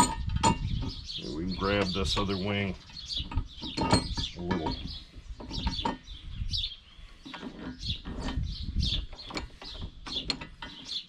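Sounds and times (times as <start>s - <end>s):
metal parts clunking at a vise: 0.0s - 1.0s, 1.6s - 6.1s, 7.2s - 11.0s
small birds chirping: 0.0s - 11.0s.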